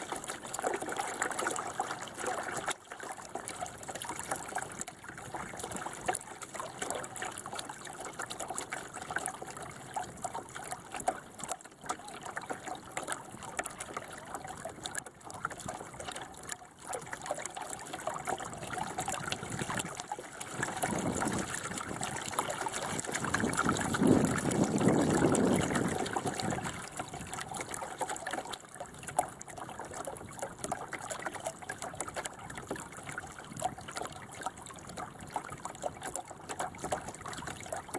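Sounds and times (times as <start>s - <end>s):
water splashing against hull: 0.0s - 37.9s.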